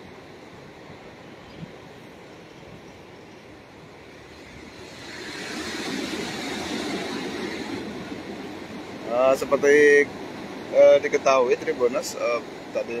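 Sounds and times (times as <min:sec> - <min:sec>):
waves washing on sandy beach: 0:00.0 - 0:13.0.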